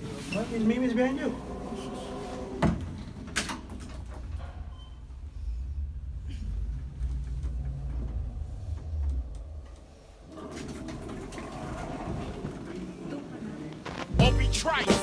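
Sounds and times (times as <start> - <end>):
hallway noise: 0.0 - 15.0
elevator doors sliding open: 0.2 - 13.7
elevator rumbling hum: 1.1 - 14.9.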